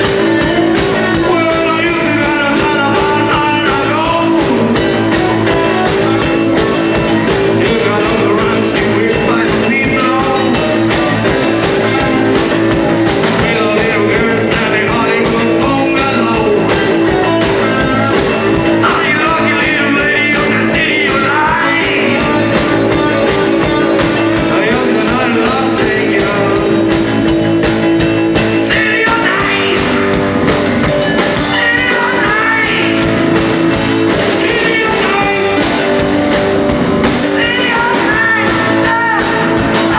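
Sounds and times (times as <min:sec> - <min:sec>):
electric guitar: 0:00.0 - 0:39.9
person singing: 0:00.0 - 0:39.9
rock band playing: 0:00.0 - 0:39.9.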